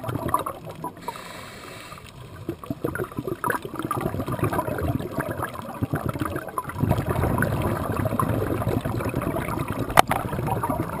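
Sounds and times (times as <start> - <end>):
underwater regulator bubbling: 0.0 - 11.0.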